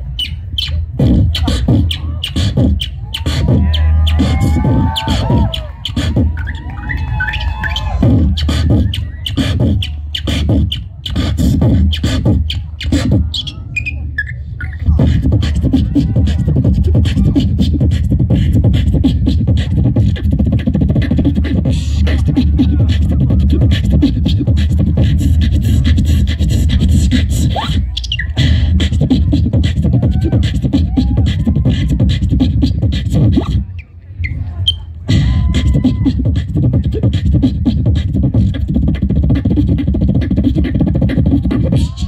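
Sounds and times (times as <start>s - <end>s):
beatboxing through microphone: 0.0s - 42.0s.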